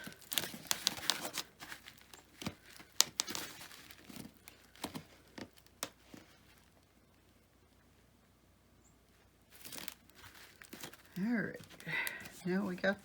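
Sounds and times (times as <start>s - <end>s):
foam board crinkling: 0.0s - 8.0s, 9.1s - 13.0s.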